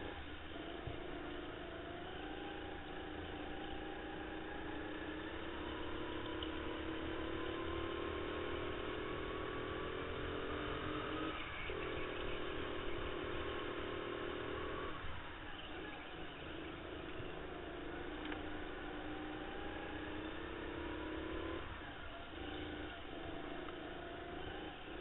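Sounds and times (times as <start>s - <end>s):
go-kart motor at speed: 0.0s - 25.0s.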